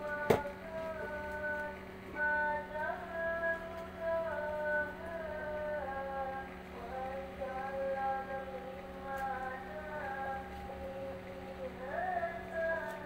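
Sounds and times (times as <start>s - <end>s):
steady low hum: 0.0s - 13.0s
woman singing: 0.0s - 13.0s.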